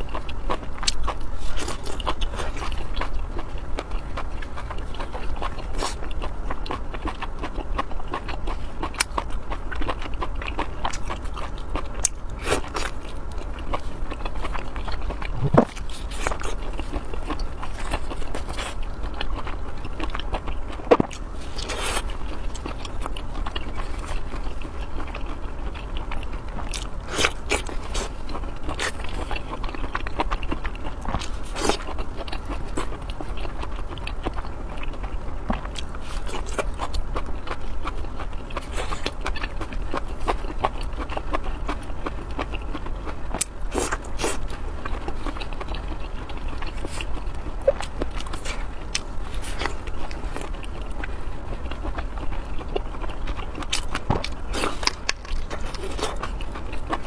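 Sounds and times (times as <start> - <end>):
person chewing with mouth smacks: 0.0 - 57.0
steady low hum: 0.0 - 57.0.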